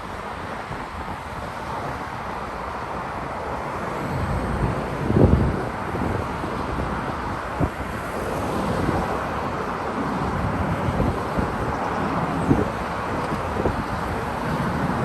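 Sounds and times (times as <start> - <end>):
wind buffeting microphone: 0.0 - 15.0
jet engines roaring: 2.9 - 15.0.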